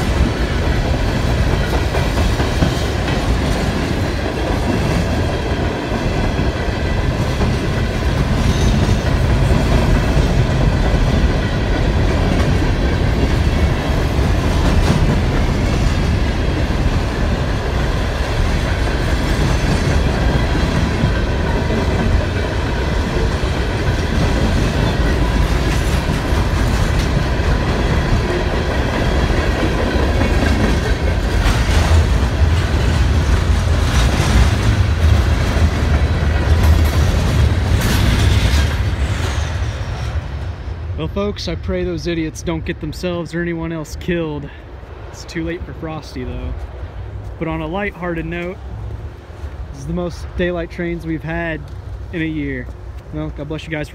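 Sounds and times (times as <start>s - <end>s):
freight train cars rolling past: 0.0s - 53.9s.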